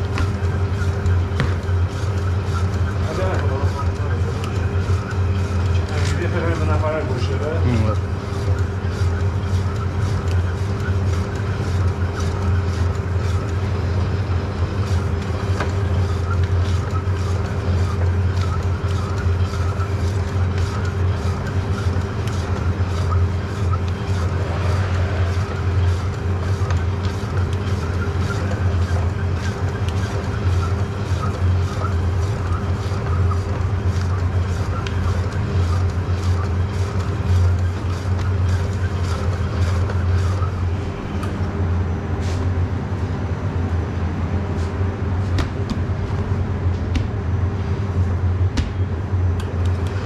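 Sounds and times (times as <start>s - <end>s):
meat slicer motor hum: 0.0s - 50.0s.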